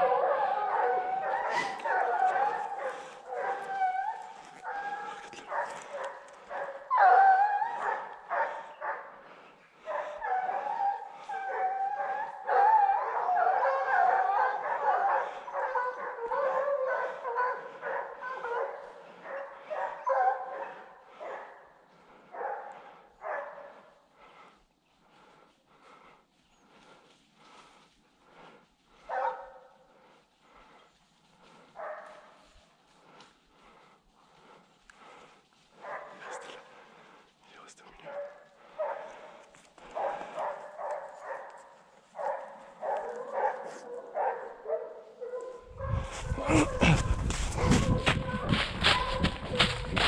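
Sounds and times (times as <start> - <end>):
hounds baying: 0.0 - 37.3, 37.9 - 50.0.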